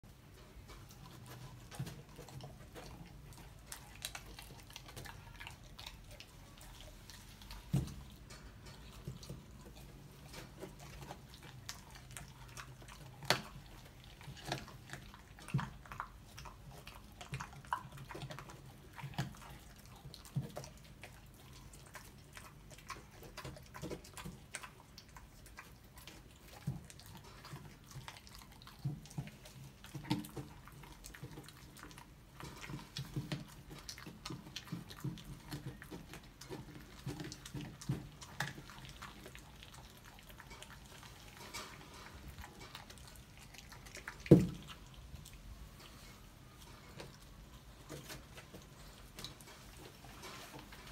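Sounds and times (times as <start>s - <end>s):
puppy crunching bones: 0.3s - 50.9s.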